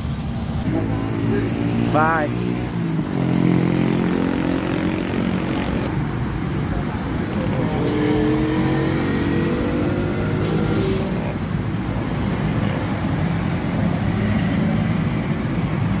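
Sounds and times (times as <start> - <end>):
passing vehicle engine: 0.0 - 16.0
road traffic: 0.0 - 16.0.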